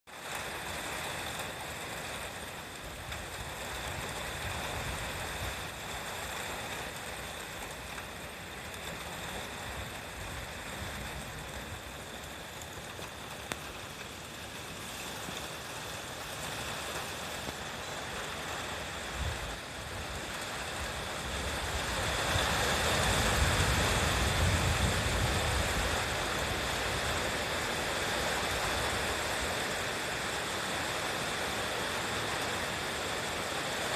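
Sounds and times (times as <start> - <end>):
gusty wind with rain: 0.1 - 33.9
wind rumbling on microphone: 0.4 - 14.4, 15.1 - 33.9.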